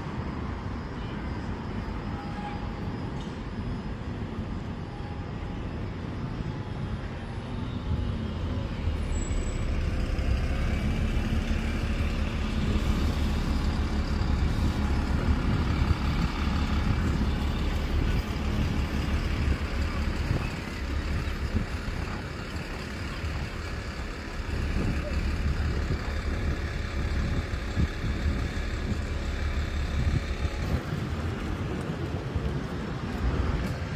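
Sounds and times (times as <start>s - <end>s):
bus engine rumbling: 0.0s - 33.9s
road traffic: 0.0s - 33.9s.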